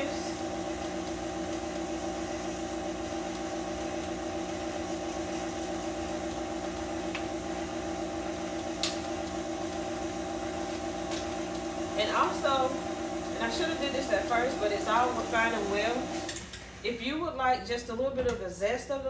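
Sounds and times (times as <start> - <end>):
stand mixer motor running: 0.0 - 16.6.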